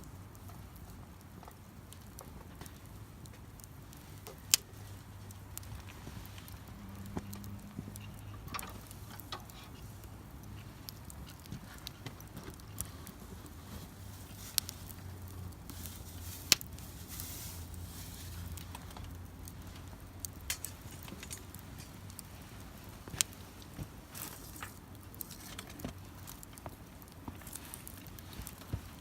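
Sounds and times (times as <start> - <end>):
low background hiss: 0.0 - 29.0
wood fire crackling and popping: 0.0 - 29.0.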